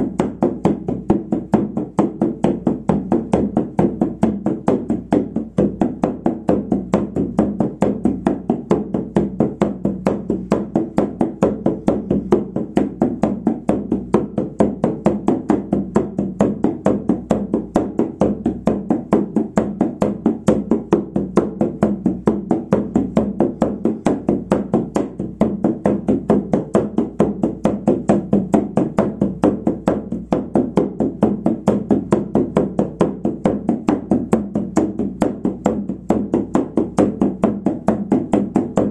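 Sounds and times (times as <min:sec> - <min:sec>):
frame drum steady beat: 0:00.0 - 0:38.9.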